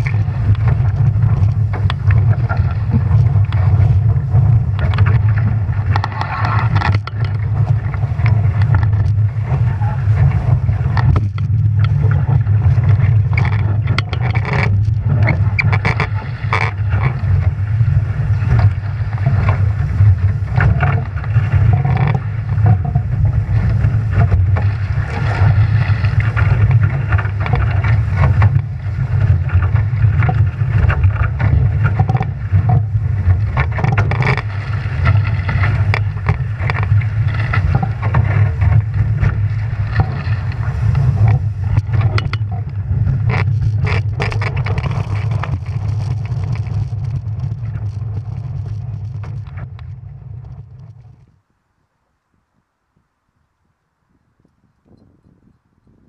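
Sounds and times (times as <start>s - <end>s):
rushing water: 0.0s - 49.9s
wind buffeting microphone: 0.0s - 51.6s, 52.3s - 56.0s.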